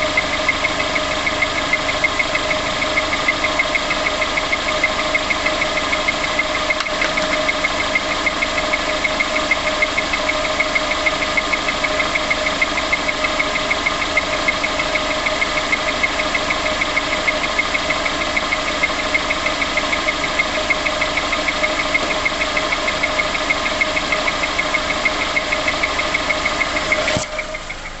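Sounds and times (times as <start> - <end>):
car engine idling: 0.0 - 28.0
fast regular engine tapping: 0.0 - 28.0.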